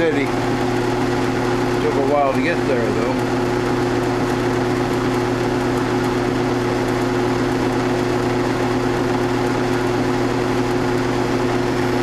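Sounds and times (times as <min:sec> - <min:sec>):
milling machine motor hum: 0:00.0 - 0:12.0.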